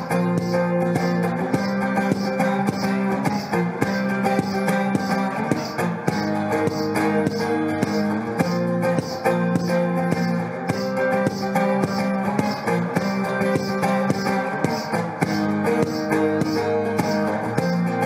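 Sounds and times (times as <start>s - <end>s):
amplified guitar picking: 0.0s - 18.0s.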